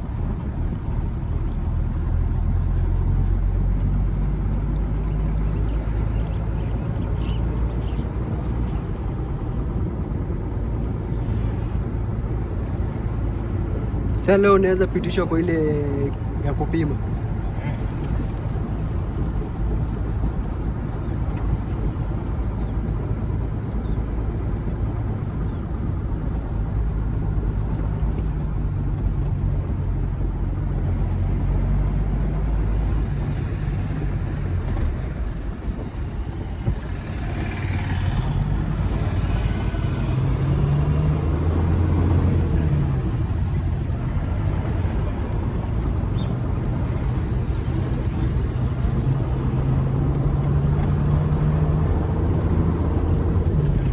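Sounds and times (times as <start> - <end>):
road noise: 0.0 - 53.9
truck engine droning: 0.0 - 53.9.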